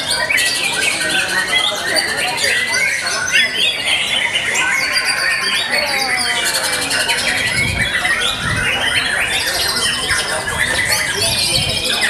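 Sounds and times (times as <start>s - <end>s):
birds singing whistles and trills: 0.0s - 12.0s.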